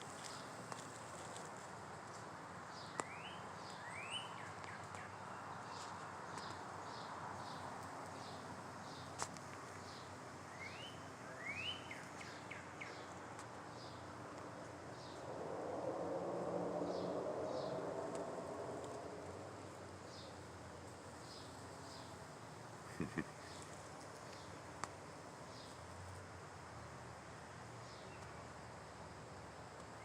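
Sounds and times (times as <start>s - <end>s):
songbird singing: 0.0s - 1.5s, 2.1s - 29.0s.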